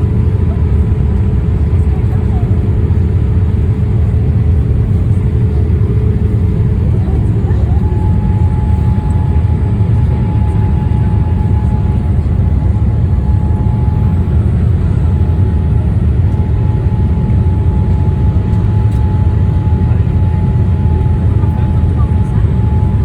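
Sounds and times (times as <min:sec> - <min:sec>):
aircraft cabin engine rumble: 0:00.0 - 0:23.0
faint steady whine: 0:00.0 - 0:23.0.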